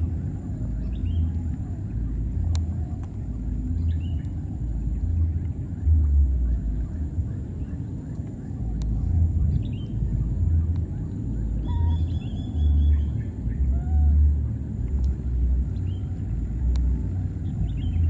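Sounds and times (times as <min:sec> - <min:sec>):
wind buffeting microphone: 0:00.0 - 0:18.0
faint bird chirps: 0:00.5 - 0:18.0.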